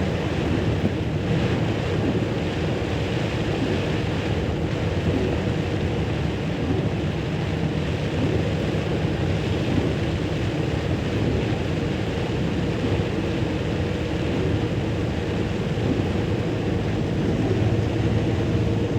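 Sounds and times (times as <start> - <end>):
rain: 0.0 - 18.9
tyres on wet road: 0.0 - 18.9
vehicle engine hum: 0.0 - 18.9
wind: 0.0 - 18.9.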